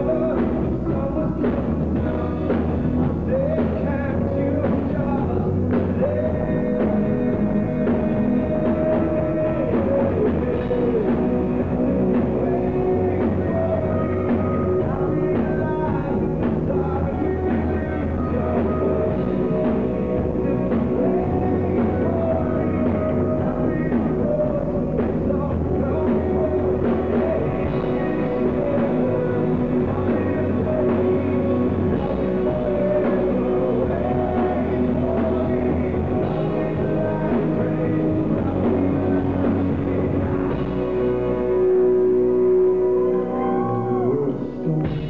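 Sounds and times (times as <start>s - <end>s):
live rock band playing: 0.0s - 45.0s
man singing lead vocals: 0.0s - 45.0s.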